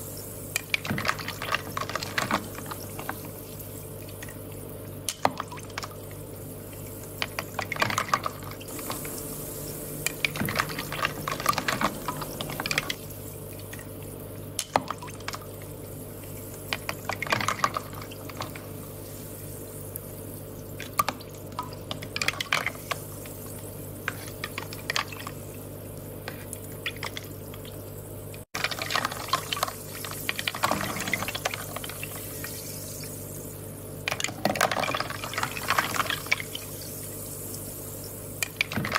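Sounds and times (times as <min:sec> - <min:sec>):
steady low hum: 0:00.0 - 0:34.4
water trickling and bubbling: 0:00.6 - 0:33.2, 0:34.1 - 0:38.9.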